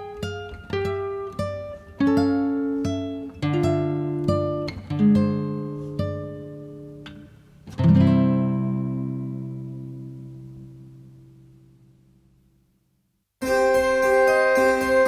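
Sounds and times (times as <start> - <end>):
acoustic guitar music: 0.0 - 12.5, 13.4 - 15.0.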